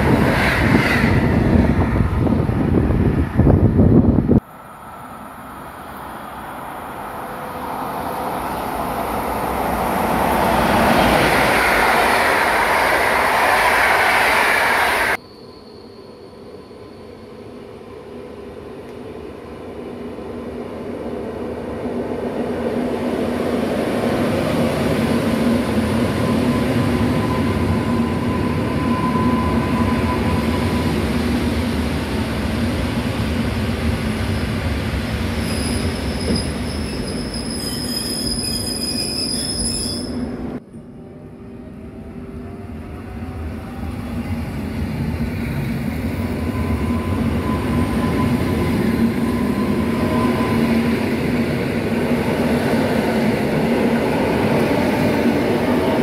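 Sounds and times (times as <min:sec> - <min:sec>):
passenger train passing: 0:00.0 - 0:56.0.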